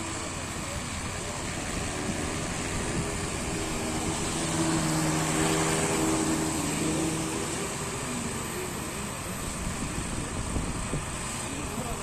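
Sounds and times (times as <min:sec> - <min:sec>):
tiller engines droning: 0:00.0 - 0:12.0.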